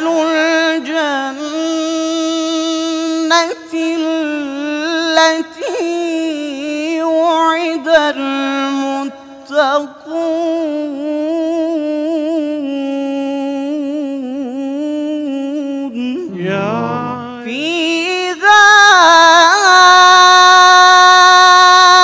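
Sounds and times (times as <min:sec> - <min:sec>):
man reciting melodically: 0:00.0 - 0:22.0.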